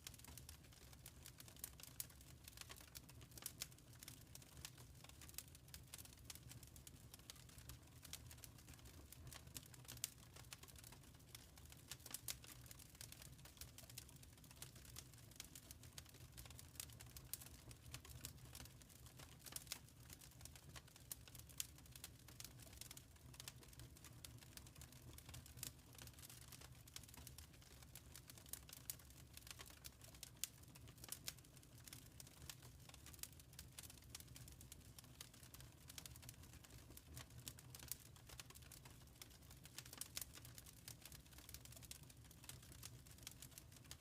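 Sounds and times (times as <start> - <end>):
fire snaps and pops: 0.0 - 44.0
wood fire crackling: 0.0 - 44.0.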